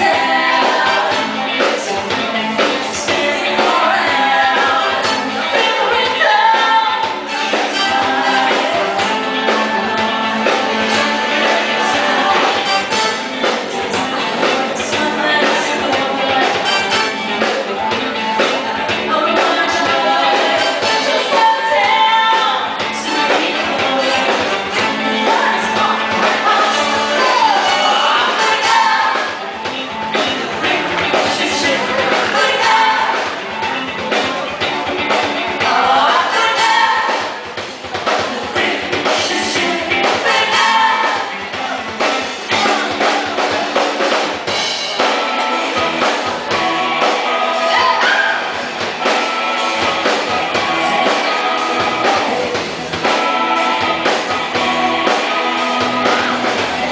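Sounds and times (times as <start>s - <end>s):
woman singing lead: 0.0s - 44.1s, 45.0s - 56.9s
drum kit and percussion: 0.0s - 56.9s
live band playing: 0.0s - 56.9s.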